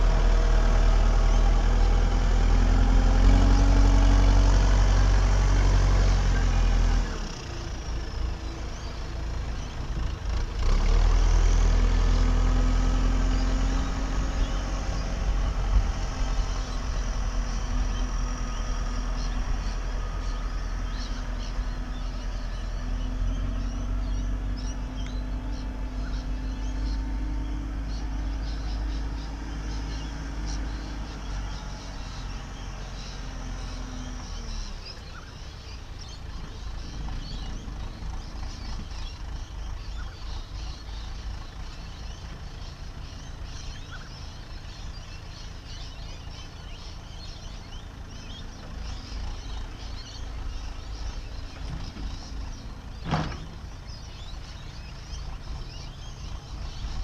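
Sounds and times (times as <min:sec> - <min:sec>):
birds chirping: 0:00.0 - 0:57.0
heavy diesel engine running: 0:00.0 - 0:57.0.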